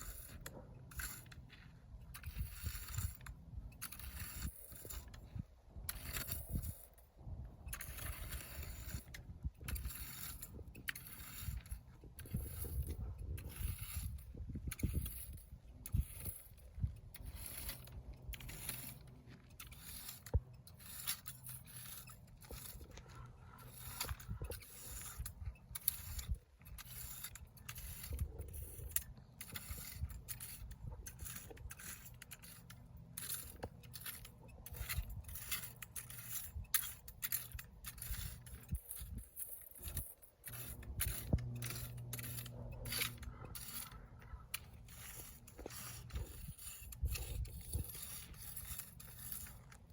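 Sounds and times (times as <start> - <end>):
scraping and rustling on dry ground: 0.0 - 49.9.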